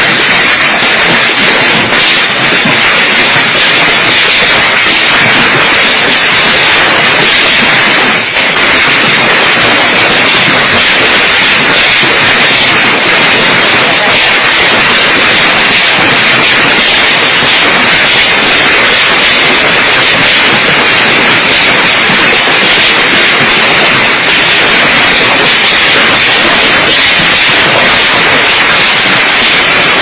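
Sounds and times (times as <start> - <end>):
storm rushing noise: 0.0 - 30.0.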